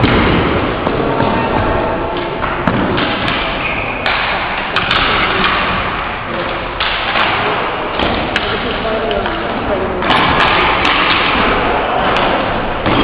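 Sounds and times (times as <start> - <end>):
hockey sticks and ball knocking: 0.0 - 13.0.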